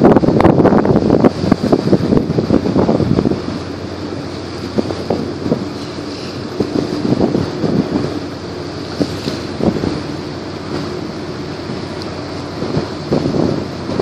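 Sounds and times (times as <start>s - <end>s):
low ship engine hum: 0.0s - 14.0s
water washing: 0.0s - 14.0s
wind buffeting microphone: 0.0s - 14.0s.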